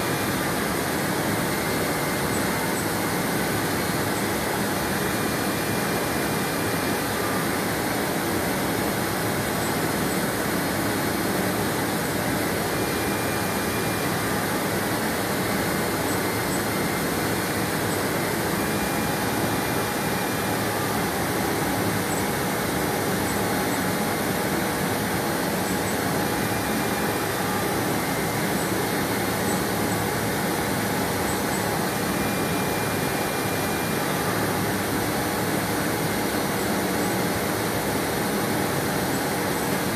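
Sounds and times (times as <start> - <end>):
cnc router running: 0.0 - 39.9.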